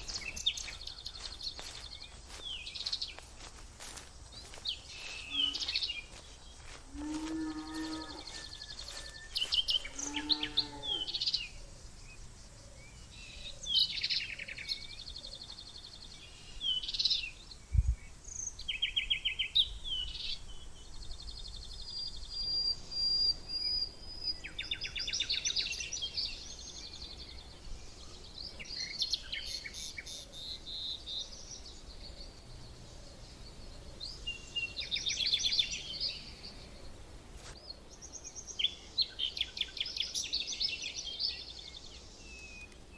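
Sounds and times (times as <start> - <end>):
songbirds chirping and singing: 0.0 - 42.9.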